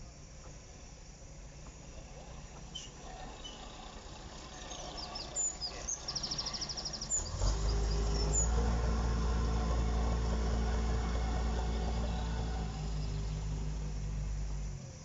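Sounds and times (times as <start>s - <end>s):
diesel locomotive engine rumble: 0.0s - 15.0s
birds chirping: 1.4s - 14.7s.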